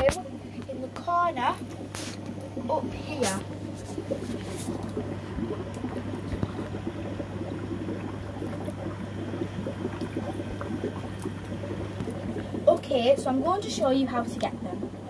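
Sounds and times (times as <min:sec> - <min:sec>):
aquarium water bubbling: 0:00.0 - 0:15.0
steady low hum: 0:00.0 - 0:15.0.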